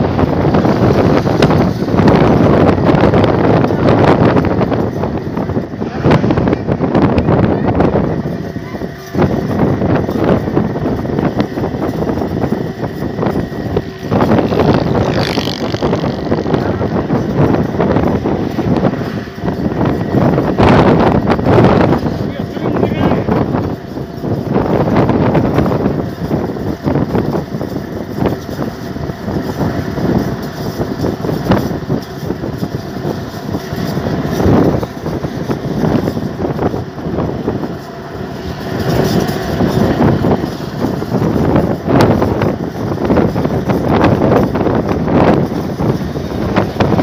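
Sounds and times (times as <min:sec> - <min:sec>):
moving road vehicle: 0:00.0 - 0:47.0
wind buffeting microphone: 0:00.0 - 0:47.0.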